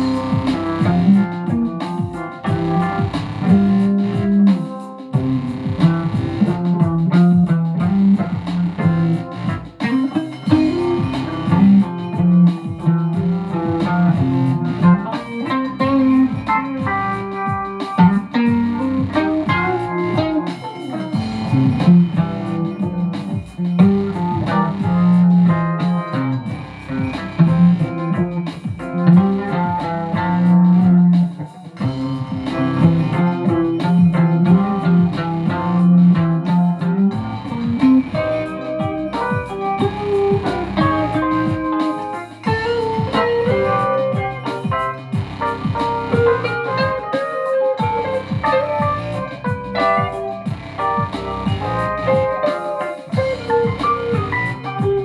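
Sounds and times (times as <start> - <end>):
held low bass line: 0.0 - 4.5, 5.2 - 9.8, 10.5 - 20.4, 21.2 - 31.2, 31.8 - 41.7, 42.5 - 47.0, 47.8 - 52.3, 53.2 - 55.0
plucked guitar notes: 0.0 - 55.0.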